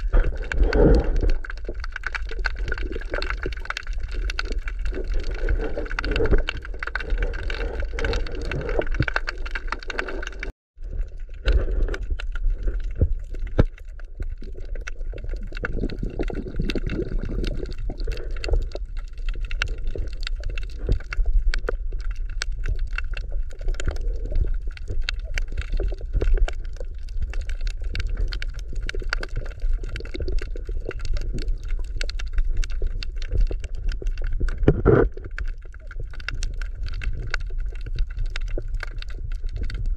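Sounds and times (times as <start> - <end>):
dense crackling clicks: 0.0 - 39.9
underwater rumble of moving water: 0.0 - 39.9.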